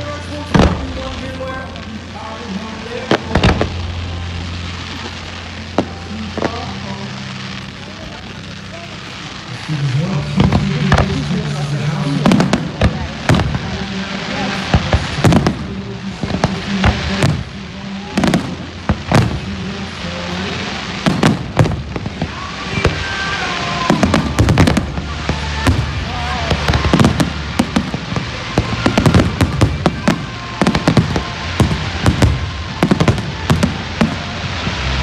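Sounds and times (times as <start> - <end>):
fireworks banging and crackling: 0.0 - 35.0.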